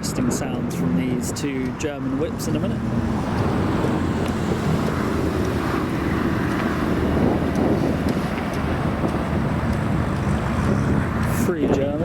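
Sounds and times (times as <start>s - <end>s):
car engines at low revs: 0.0s - 12.0s
wind buffeting microphone: 0.0s - 12.0s.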